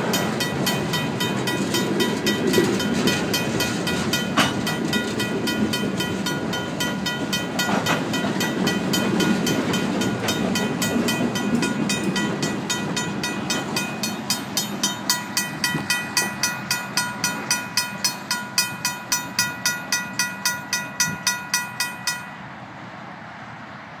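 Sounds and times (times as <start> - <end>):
mechanical crossing bell ringing: 0.0 - 22.5
train rumbling over rails: 0.0 - 24.0.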